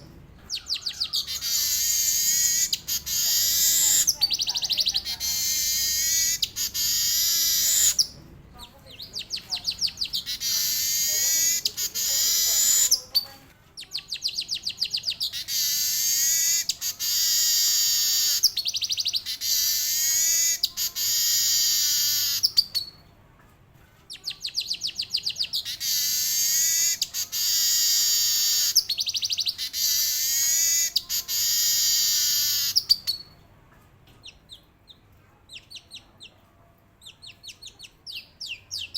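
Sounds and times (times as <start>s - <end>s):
weaver bird singing: 0.0s - 8.2s, 8.9s - 23.0s, 24.1s - 33.3s.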